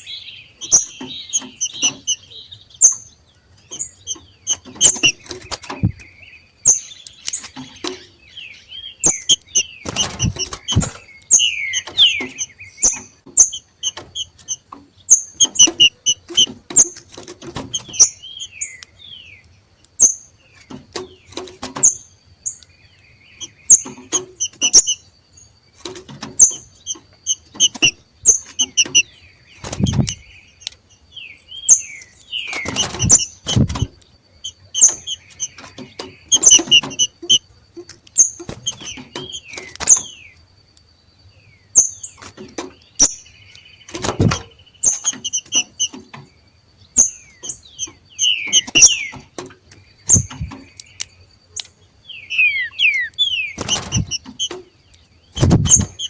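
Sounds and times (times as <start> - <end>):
birds chirping sharp notes: 0.0 - 40.5, 41.5 - 56.0
birds rustling and knocking: 0.6 - 6.2, 7.0 - 8.2, 9.0 - 18.6, 20.5 - 22.2, 23.4 - 25.0, 25.7 - 30.9, 32.2 - 40.4, 41.8 - 51.8, 52.4 - 56.0.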